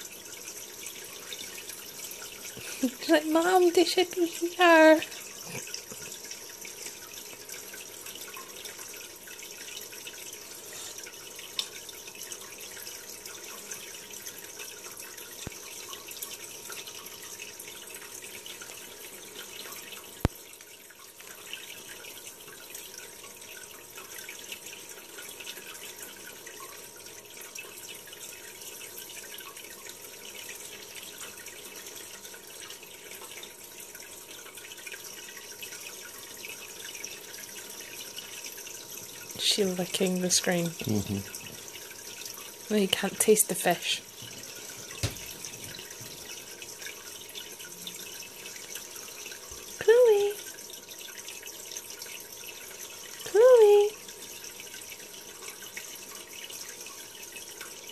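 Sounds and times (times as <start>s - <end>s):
water trickling and dripping: 0.0s - 57.9s.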